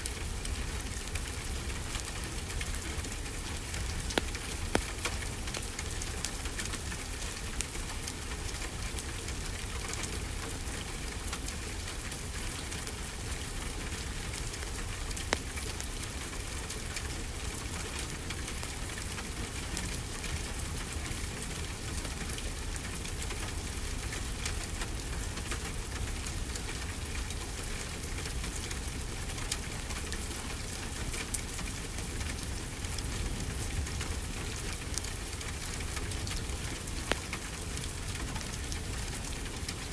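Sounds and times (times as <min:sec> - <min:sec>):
wood fire crackling: 0:00.0 - 0:21.0, 0:21.6 - 0:39.9
steady rainfall: 0:00.0 - 0:39.9.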